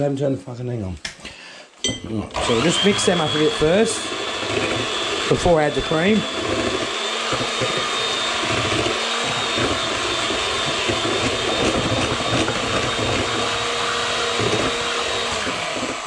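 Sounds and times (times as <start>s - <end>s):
electric hand mixer whisking: 2.3s - 16.0s.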